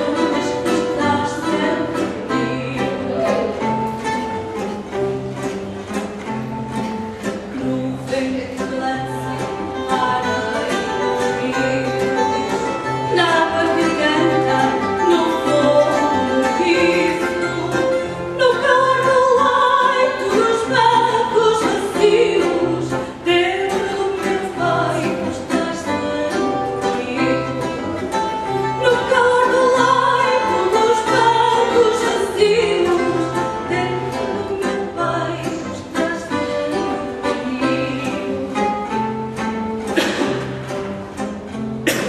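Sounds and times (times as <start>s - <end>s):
woman singing: 0.0s - 4.5s, 7.3s - 39.7s
guitars plucking: 0.0s - 42.0s.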